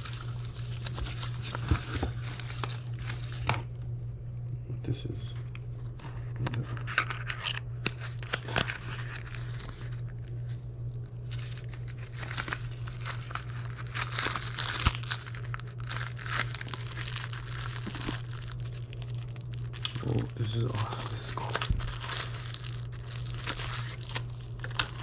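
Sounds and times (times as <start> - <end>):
plastic packaging crinkling and tearing: 0.0 - 3.8, 6.0 - 25.0
steady low hum: 0.0 - 25.0.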